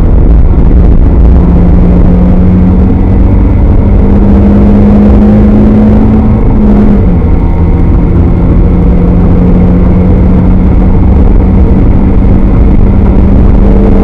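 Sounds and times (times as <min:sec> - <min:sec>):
car engine at high revs: 0:00.0 - 0:14.0
road and wind noise: 0:00.0 - 0:14.0.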